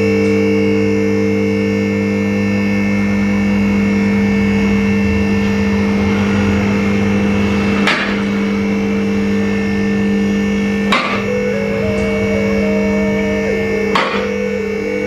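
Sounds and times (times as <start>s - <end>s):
sustained synth chords: 1.0s - 15.0s.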